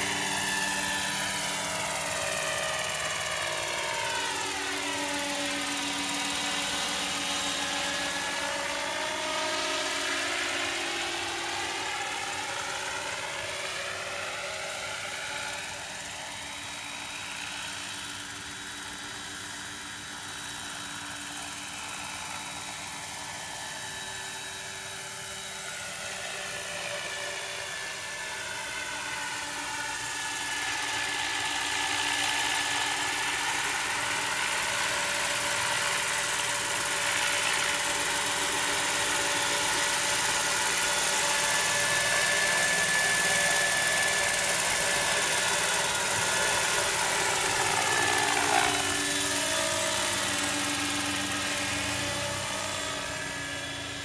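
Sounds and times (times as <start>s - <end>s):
helicopter rotor noise: 0.0s - 54.0s
helicopter turbine whine: 0.0s - 54.0s.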